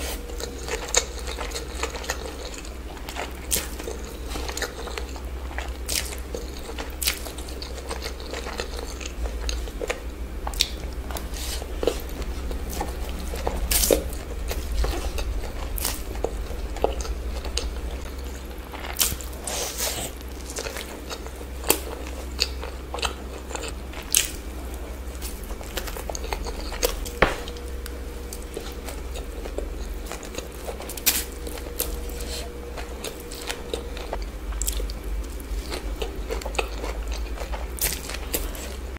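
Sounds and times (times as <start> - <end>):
person biting and chewing food: 0.0 - 38.9
steady low hum: 0.0 - 38.9.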